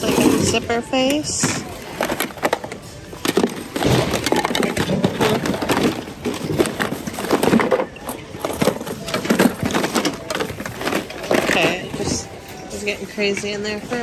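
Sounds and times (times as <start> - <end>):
hands rummaging through merchandise: 0.0 - 14.0.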